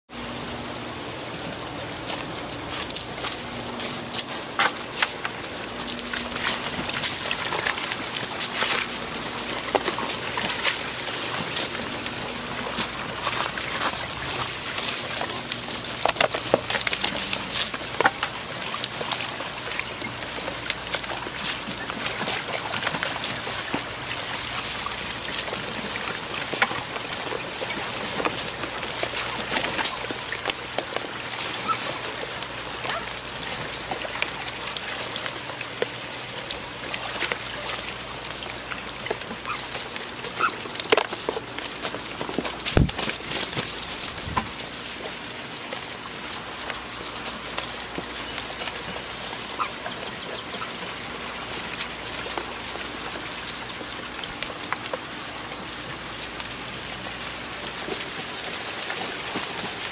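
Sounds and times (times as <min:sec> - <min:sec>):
water splashing and sloshing: 0:00.1 - 0:59.9.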